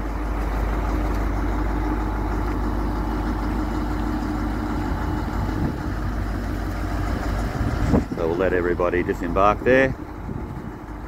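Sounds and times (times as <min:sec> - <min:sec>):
diesel railcar engine idling: 0:00.0 - 0:11.0.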